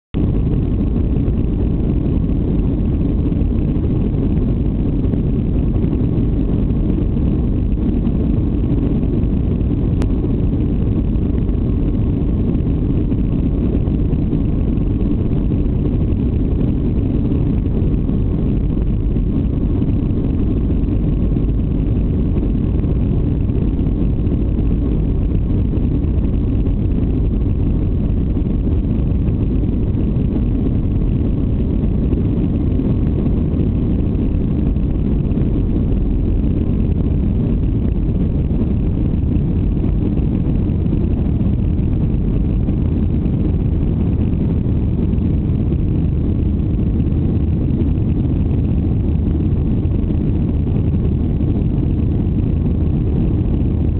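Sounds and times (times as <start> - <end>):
jet engine rumble: 0.0 - 53.9.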